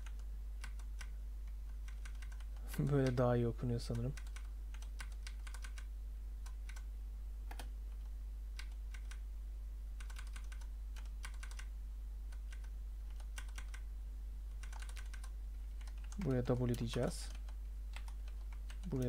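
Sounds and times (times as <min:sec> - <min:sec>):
computer keyboard typing: 0:00.0 - 0:03.2, 0:03.9 - 0:06.9, 0:07.5 - 0:09.2, 0:10.0 - 0:11.7, 0:12.3 - 0:13.8, 0:14.5 - 0:19.0
steady low hum: 0:00.0 - 0:19.0.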